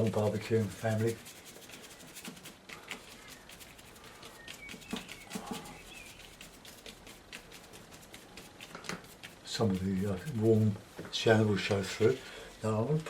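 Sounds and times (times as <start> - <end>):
paintbrush scratchy strokes: 0.0 - 12.9.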